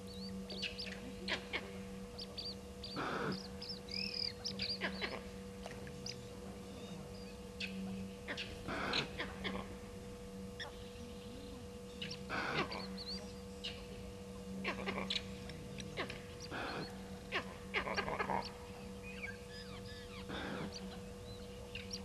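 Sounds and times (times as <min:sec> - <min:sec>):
birds chirping and whistling: 0:00.0 - 0:01.6, 0:02.2 - 0:05.3, 0:05.9 - 0:09.6, 0:10.6 - 0:14.1, 0:14.7 - 0:22.0
steady electrical hum: 0:00.0 - 0:22.0
harsh bird calls: 0:00.1 - 0:05.4, 0:06.0 - 0:09.8, 0:11.9 - 0:14.0, 0:14.6 - 0:22.0.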